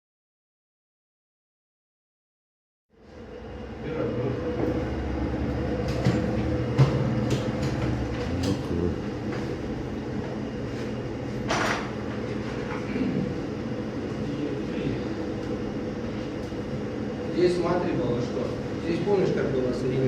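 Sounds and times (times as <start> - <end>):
steady mechanical hum: 2.9 - 20.0.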